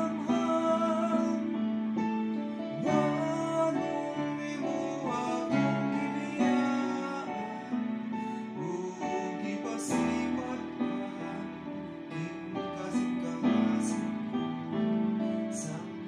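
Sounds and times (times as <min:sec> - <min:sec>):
digital piano ballad: 0:00.0 - 0:16.0.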